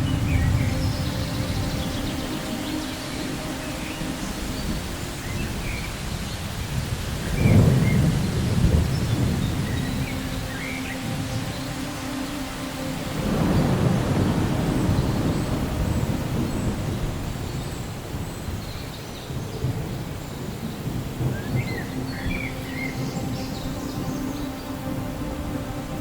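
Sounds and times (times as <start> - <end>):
steady rain: 0.0 - 26.0
thunder rumbling: 0.0 - 26.0.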